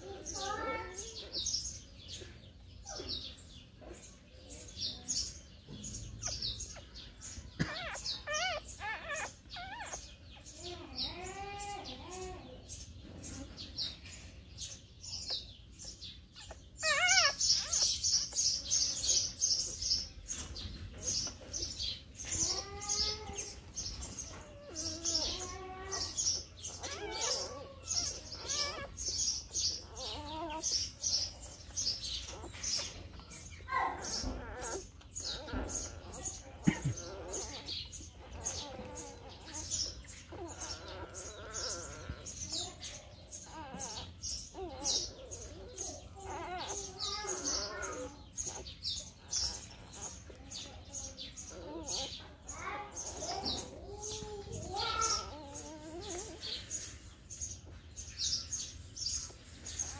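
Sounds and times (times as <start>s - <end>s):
birds chirping: 0.0s - 59.9s
puppies squeaking and whining: 0.0s - 59.9s.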